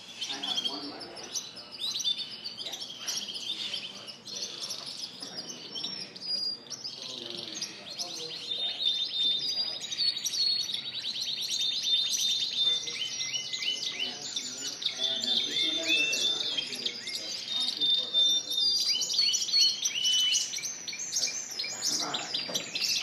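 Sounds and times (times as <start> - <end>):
canaries singing: 0.0 - 23.0.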